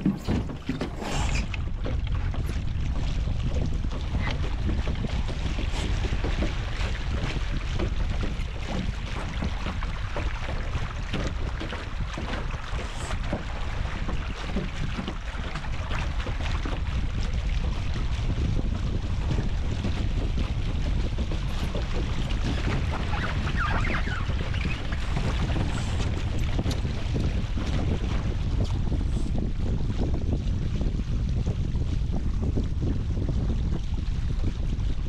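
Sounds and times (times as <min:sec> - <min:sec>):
water rushing along hulls: 0:00.0 - 0:35.0
wind buffeting microphone: 0:00.0 - 0:35.0.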